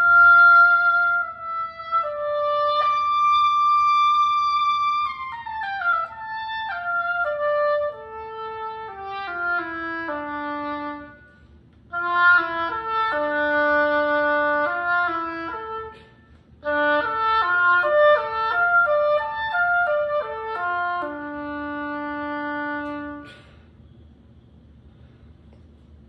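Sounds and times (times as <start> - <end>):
solo oboe playing: 0.0 - 23.5.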